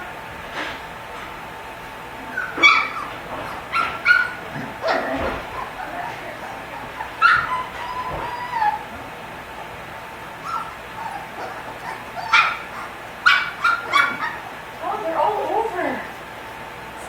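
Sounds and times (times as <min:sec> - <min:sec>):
puppy whining: 0:00.0 - 0:16.2
puppies whimpering and yipping: 0:01.3 - 0:16.2.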